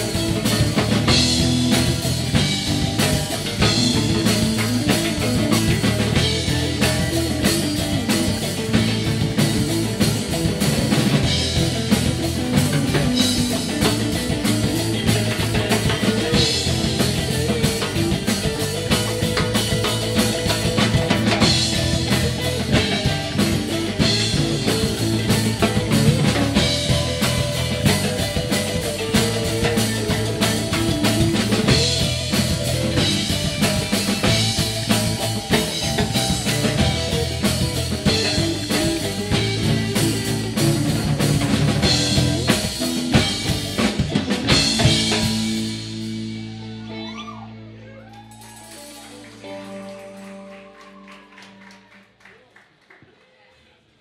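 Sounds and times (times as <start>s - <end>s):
drum kit: 0.0s - 51.6s
guitar: 0.0s - 52.2s.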